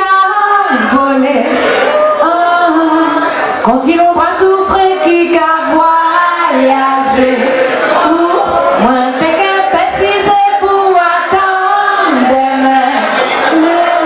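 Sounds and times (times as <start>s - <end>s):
woman singing into a microphone: 0.0s - 14.0s.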